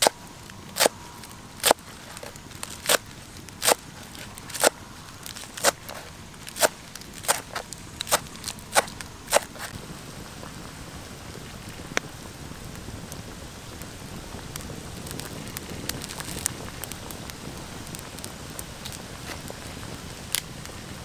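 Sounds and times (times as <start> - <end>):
water boiling in pot: 0.0 - 21.0.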